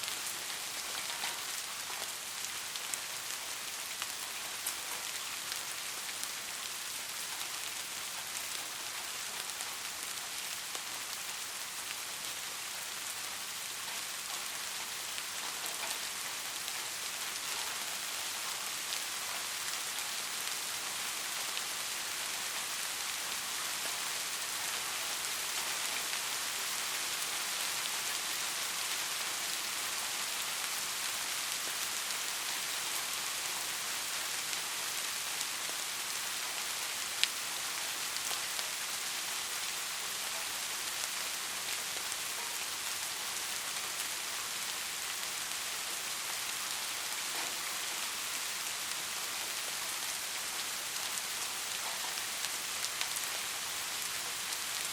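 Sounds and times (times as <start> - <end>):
soft steady rain: 0.0 - 54.9.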